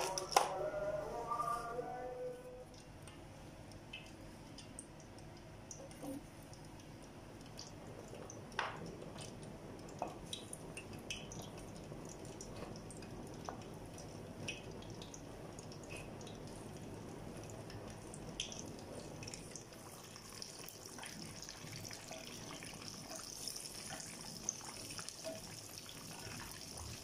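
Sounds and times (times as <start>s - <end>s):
food deep-frying in oil: 2.8s - 27.0s.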